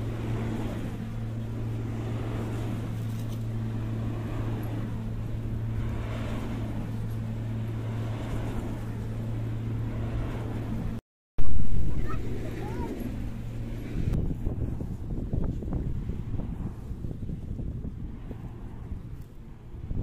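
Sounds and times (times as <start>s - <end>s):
wind rushing: 0.0s - 20.0s
wind turbine hum: 0.0s - 20.0s.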